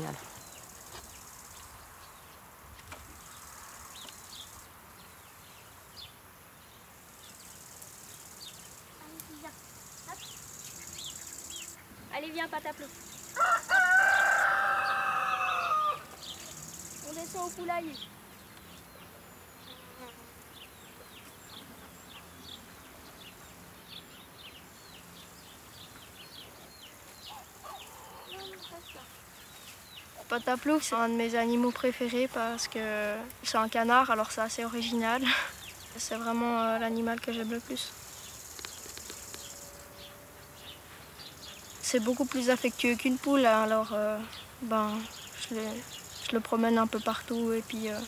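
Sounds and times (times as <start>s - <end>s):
insects hissing: 0.0s - 48.0s.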